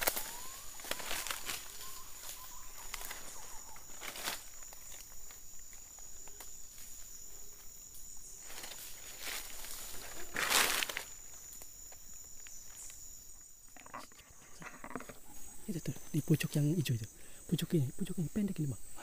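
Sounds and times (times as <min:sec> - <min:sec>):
high-pitched insect whine: 0:00.0 - 0:19.0.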